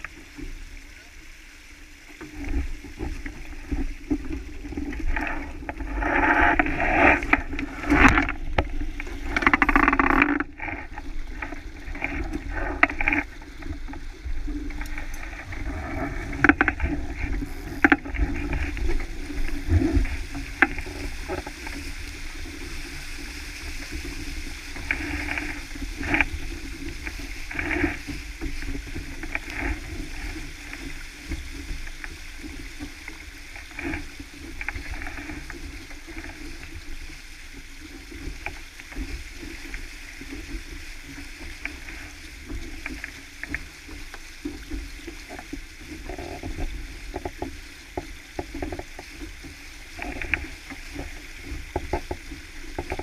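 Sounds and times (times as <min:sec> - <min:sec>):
water rushing along a hull: 0:00.0 - 0:53.0.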